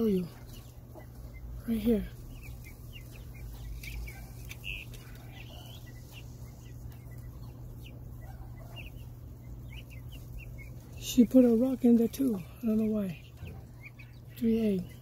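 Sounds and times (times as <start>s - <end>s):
birds chirping: 0.0s - 15.0s
faint low hum: 0.0s - 15.0s.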